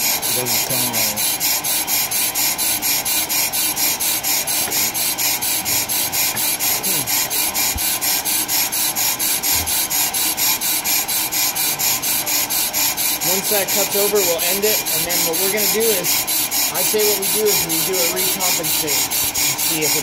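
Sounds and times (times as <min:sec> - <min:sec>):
lathe bits scraping metal: 0:00.0 - 0:20.0.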